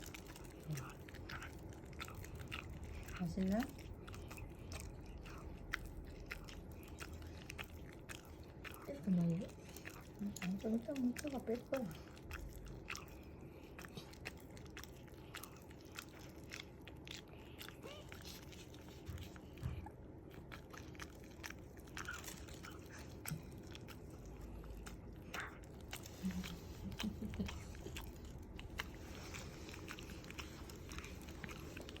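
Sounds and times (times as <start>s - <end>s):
dog chewing crunchy food: 0.0s - 32.0s.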